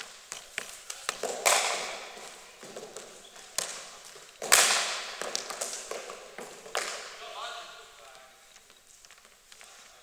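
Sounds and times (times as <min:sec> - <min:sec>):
cricket ball cracks in hall: 0:00.0 - 0:07.4, 0:08.0 - 0:10.0.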